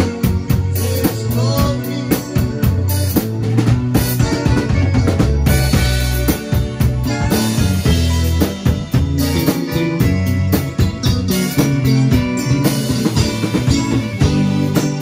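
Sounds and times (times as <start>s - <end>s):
drum kit beat: 0.0s - 15.0s
electric bass guitar: 0.0s - 15.0s.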